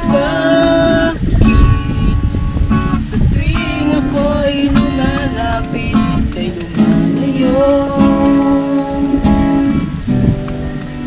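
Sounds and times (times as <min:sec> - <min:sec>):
person singing: 0:00.0 - 0:10.1
acoustic guitar strumming: 0:00.0 - 0:11.0.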